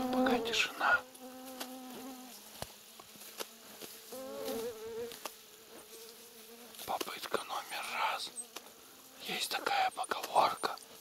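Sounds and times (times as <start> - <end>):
small insect buzzing: 0.0 - 11.0.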